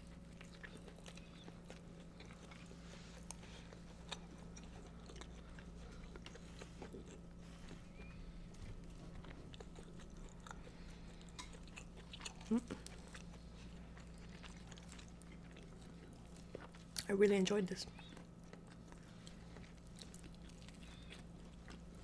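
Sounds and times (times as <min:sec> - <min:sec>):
faint chewing: 0:00.0 - 0:22.0
low steady hum: 0:00.0 - 0:22.0.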